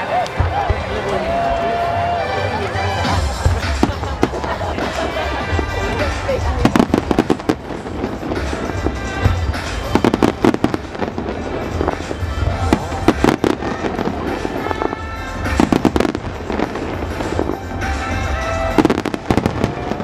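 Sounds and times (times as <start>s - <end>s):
music soundtrack: 0.0s - 20.0s
fireworks bursting: 2.7s - 20.0s.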